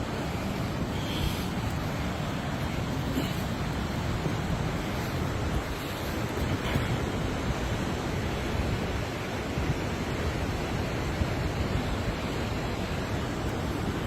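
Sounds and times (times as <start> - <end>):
fast-flowing water rushing: 0.0 - 14.0.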